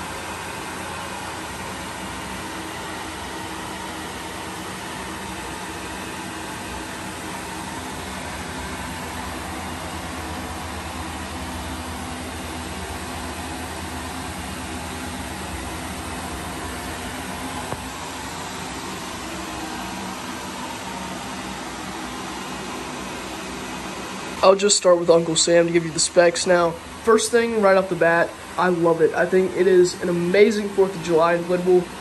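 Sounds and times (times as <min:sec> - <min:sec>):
blower fans whirring: 0:00.0 - 0:32.0.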